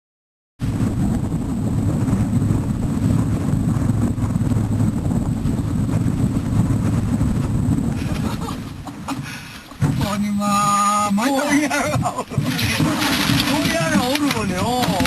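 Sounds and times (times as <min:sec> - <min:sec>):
wind on microphone: 0:00.6 - 0:15.0.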